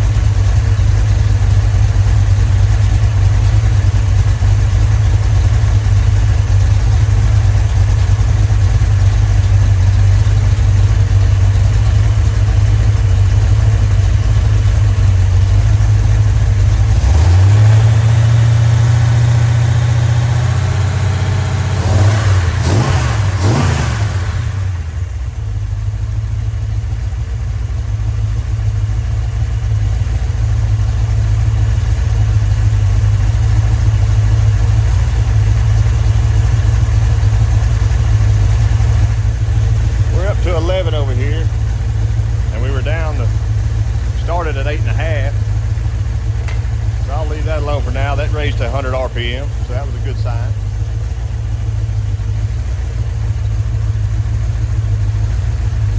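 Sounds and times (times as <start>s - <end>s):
car engine idling: 0.0s - 55.9s
engine throttle blips: 0.0s - 55.9s.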